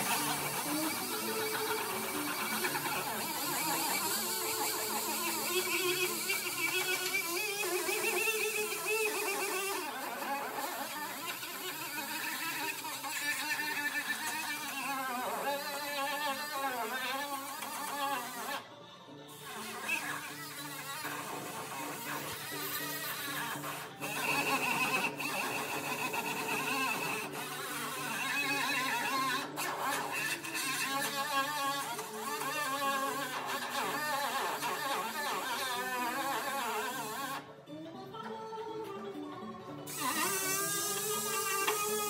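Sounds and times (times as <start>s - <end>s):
air tool cutting sheet metal: 0.0s - 37.5s, 39.9s - 42.0s.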